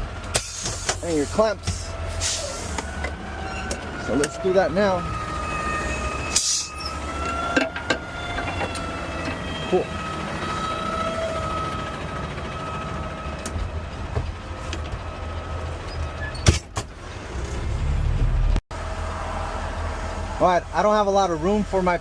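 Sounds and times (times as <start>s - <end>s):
faint engine whine: 0.0s - 22.0s
truck engine rumble: 0.0s - 22.0s.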